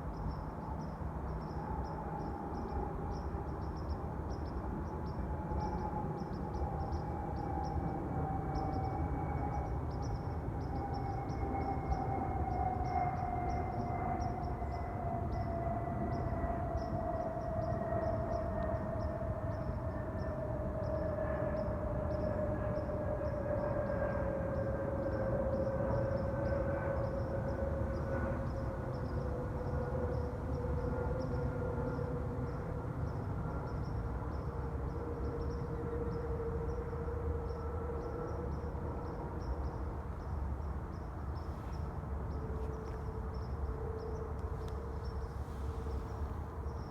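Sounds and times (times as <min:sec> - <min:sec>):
jet airliner passing low: 0:00.1 - 0:46.9.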